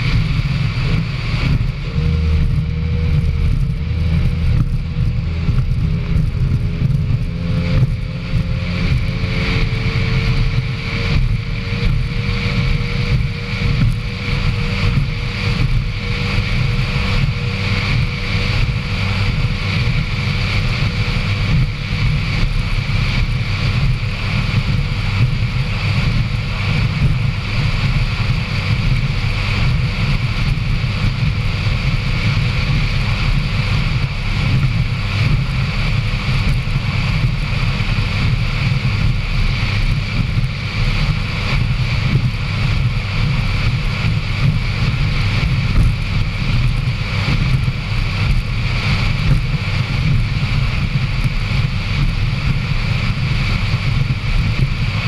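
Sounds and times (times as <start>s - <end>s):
powerboat engine and hull: 0.0s - 55.0s
wind buffeting microphone: 0.0s - 55.0s.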